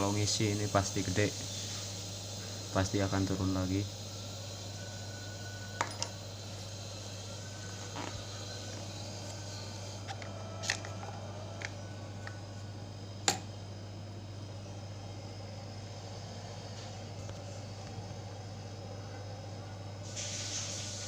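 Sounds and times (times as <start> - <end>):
refrigerator compressor humming: 0.0 - 21.0.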